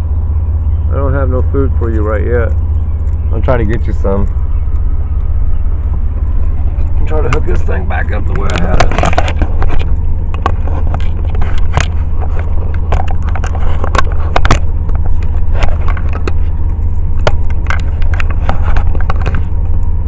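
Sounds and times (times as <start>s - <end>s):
low rumble in car cabin: 0.0s - 20.0s.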